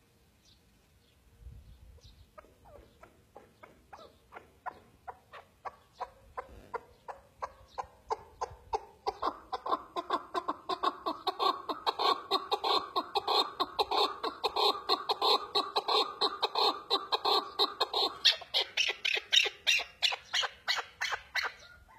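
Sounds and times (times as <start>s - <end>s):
partridge clucking calls: 2.3s - 21.9s.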